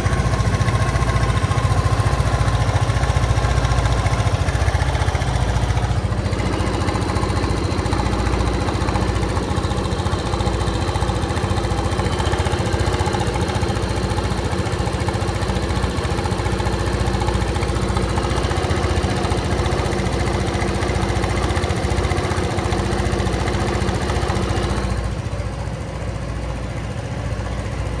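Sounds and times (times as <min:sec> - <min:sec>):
abnormal engine noise: 0:00.0 - 0:28.0
motorcycle engine idling: 0:00.0 - 0:28.0.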